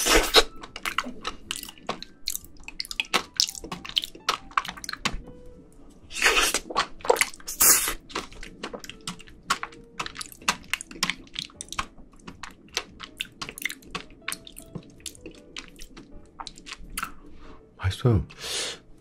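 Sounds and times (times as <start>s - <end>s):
wet mouth eating sounds: 0.0s - 5.3s, 6.1s - 17.2s.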